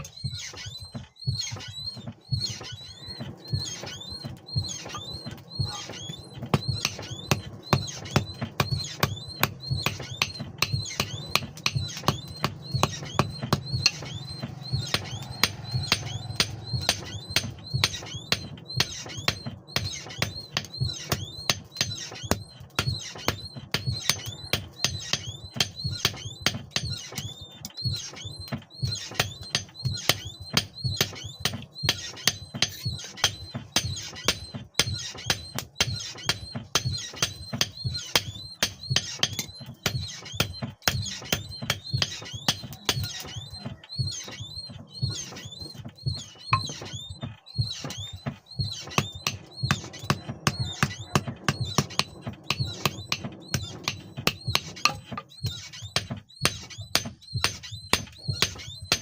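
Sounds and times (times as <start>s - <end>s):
hammer strikes on metal: 0.0s - 47.0s, 47.6s - 59.0s.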